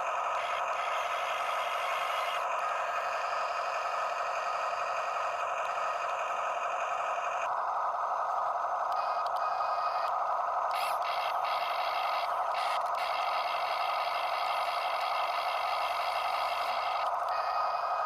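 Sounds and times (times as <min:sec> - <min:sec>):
small electric motors whirring: 0:00.0 - 0:07.5, 0:08.9 - 0:18.0.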